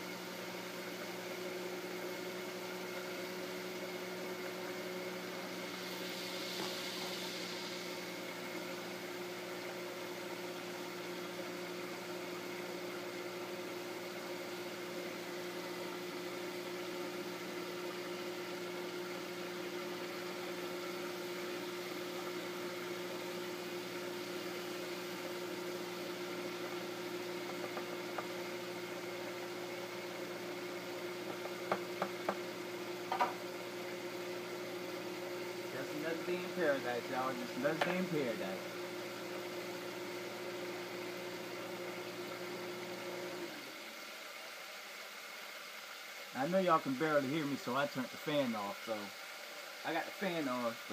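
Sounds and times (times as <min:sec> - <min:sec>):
range hood fan humming: 0:00.0 - 0:50.9.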